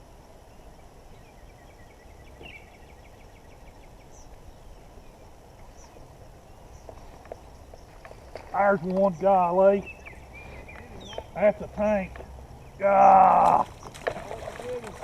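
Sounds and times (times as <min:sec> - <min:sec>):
low outdoor rush: 0:00.0 - 0:15.0.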